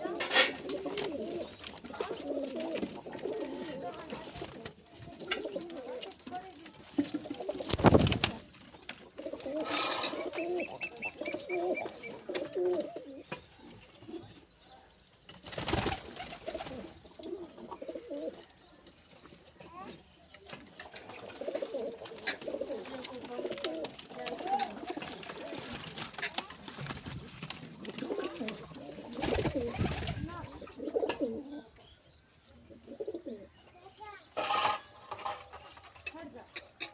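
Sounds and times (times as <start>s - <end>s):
pigeons cooing: 0.0s - 14.5s, 15.5s - 18.6s, 20.7s - 32.0s, 32.7s - 33.6s.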